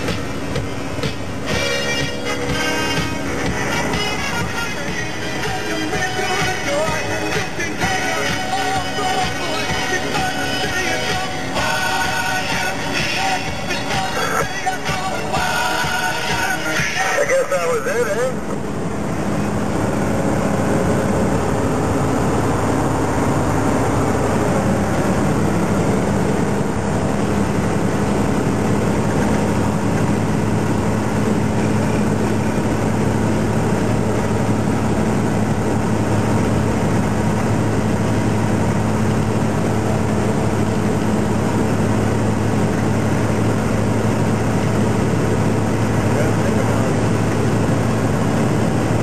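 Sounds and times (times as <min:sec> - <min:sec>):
road noise: 0:00.0 - 0:49.0
truck diesel engine drone: 0:00.0 - 0:49.0.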